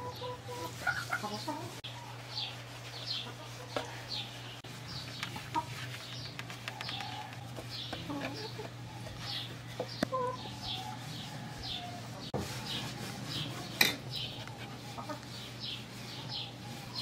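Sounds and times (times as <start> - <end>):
hen clucking: 0.0 - 17.0.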